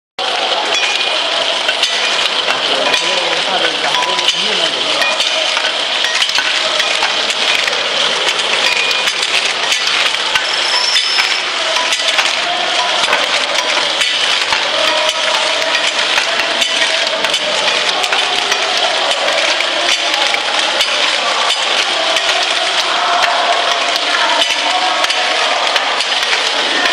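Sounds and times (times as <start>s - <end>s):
machine clattering and clicking: 0.2s - 26.9s.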